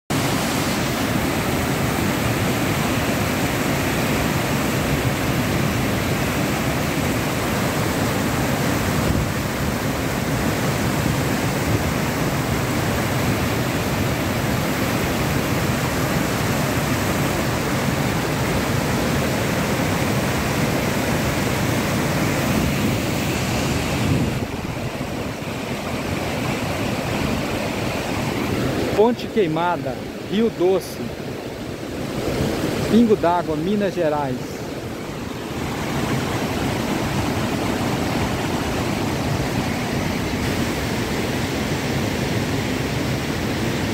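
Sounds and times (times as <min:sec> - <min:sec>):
river rushing over rocks: 0:00.1 - 0:43.9.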